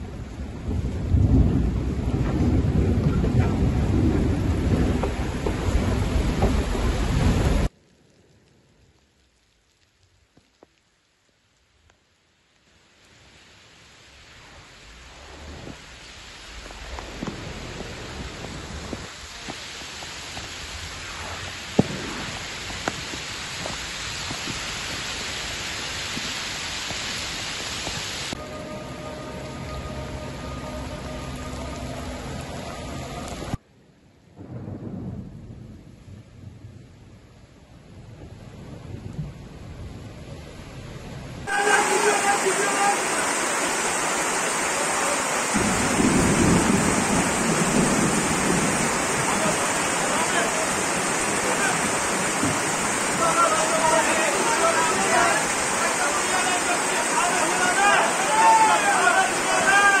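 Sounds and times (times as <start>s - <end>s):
heavy rain hissing: 0.0s - 33.6s, 37.6s - 60.0s
running floodwater: 0.0s - 33.6s, 37.4s - 60.0s.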